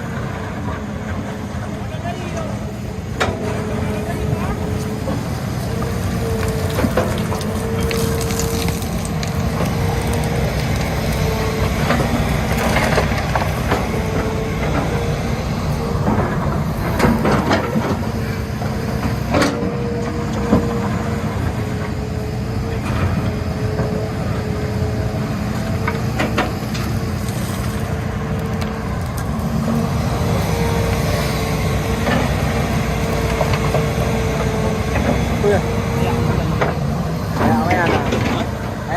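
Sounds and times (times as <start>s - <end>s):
excavator engine rumbling: 0.0s - 38.9s
hydraulic whine: 2.6s - 38.9s.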